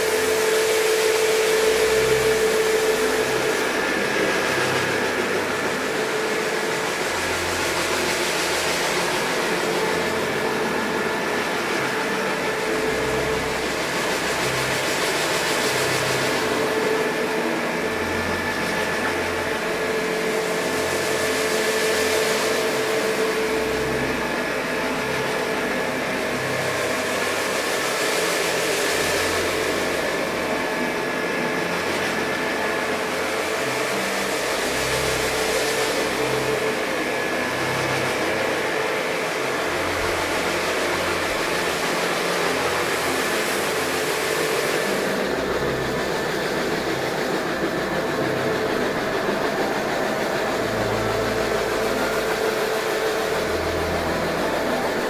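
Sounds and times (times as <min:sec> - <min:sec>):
carpet scrubbing machine motor humming: 0:00.0 - 0:55.0
rotating brushes churning foam: 0:00.0 - 0:55.0.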